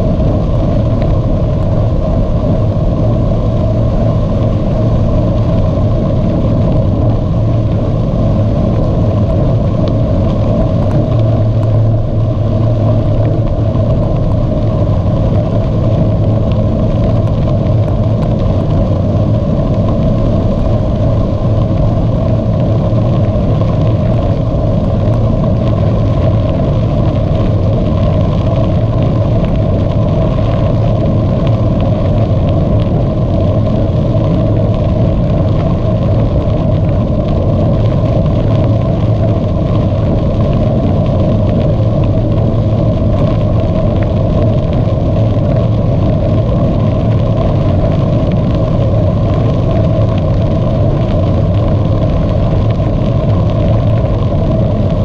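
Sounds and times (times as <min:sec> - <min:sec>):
bicycle tyre noise: 0:00.0 - 0:55.0
wind on microphone: 0:00.0 - 0:55.0.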